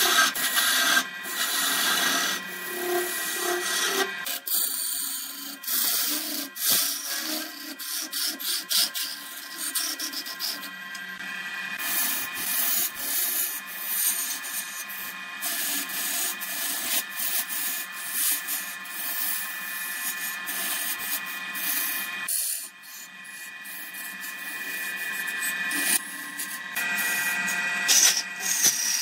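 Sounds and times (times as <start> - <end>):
turning tool scraping wood: 0.0 - 11.0, 11.8 - 29.0
lathe whine: 0.0 - 29.0.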